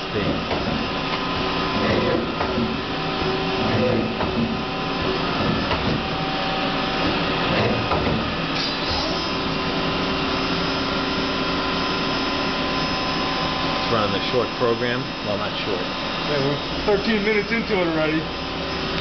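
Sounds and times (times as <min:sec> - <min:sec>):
machine whirring: 0:00.0 - 0:19.0
whining machine tones: 0:00.0 - 0:19.0.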